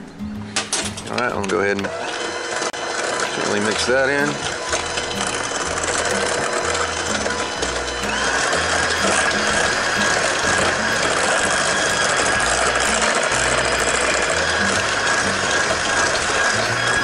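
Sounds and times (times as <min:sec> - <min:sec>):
electric hand mixer whirring: 0:01.0 - 0:17.0.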